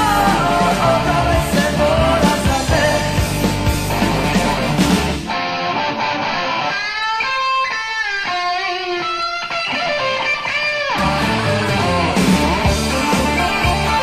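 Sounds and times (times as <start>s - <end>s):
electric guitar holding notes: 0.0s - 14.0s
rock band playing: 0.0s - 14.0s.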